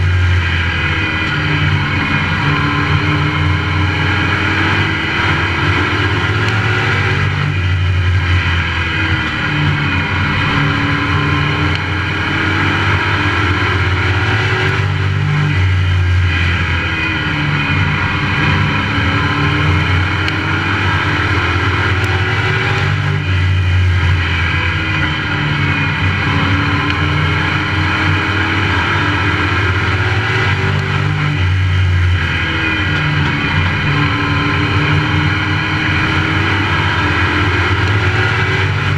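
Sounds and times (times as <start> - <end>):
racing truck engine: 0.0 - 38.9.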